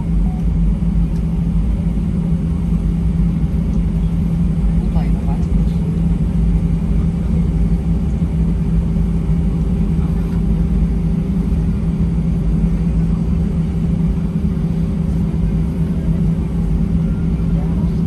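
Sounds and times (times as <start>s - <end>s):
aircraft cabin hum: 0.0s - 18.0s.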